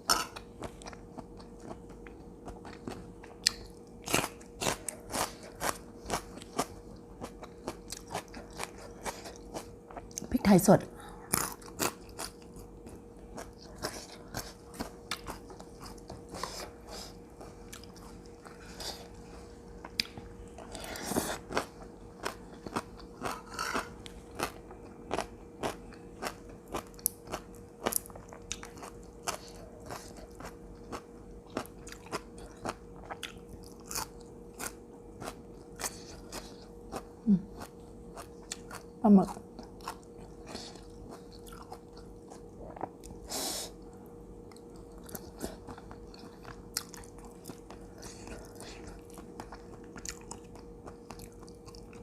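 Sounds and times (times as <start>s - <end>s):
person chewing crunchy food: 0.0s - 10.3s, 11.1s - 52.0s
faint steady hum: 0.0s - 52.0s.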